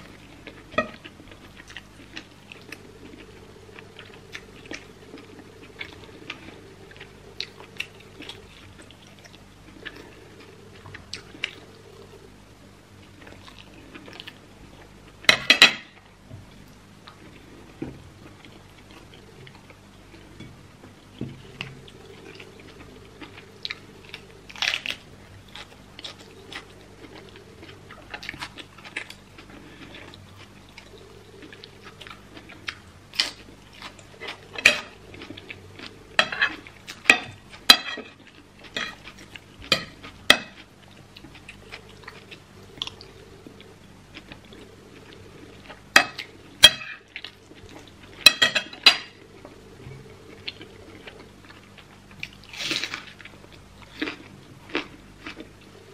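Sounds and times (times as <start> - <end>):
chewing: 0.0 - 12.3, 13.0 - 14.9, 21.2 - 55.9.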